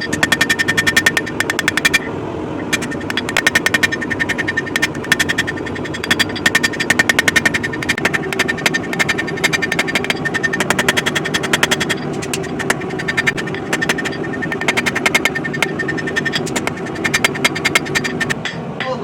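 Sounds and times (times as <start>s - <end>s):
rapid hammer blows on steel: 0.0s - 18.6s.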